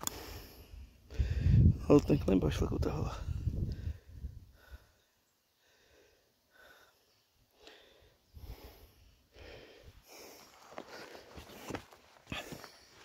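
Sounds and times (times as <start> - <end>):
man breathing heavily: 0.0 - 1.8, 3.2 - 13.0.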